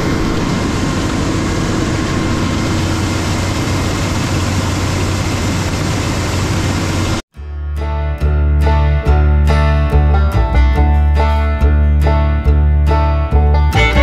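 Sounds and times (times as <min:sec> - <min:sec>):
diesel engine droning: 0:00.0 - 0:07.2, 0:08.2 - 0:14.0.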